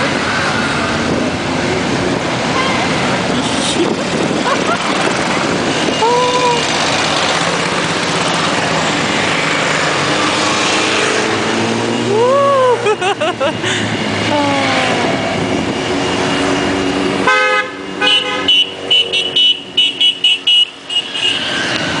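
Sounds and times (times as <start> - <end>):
motorcycles riding past: 0.0 - 19.8.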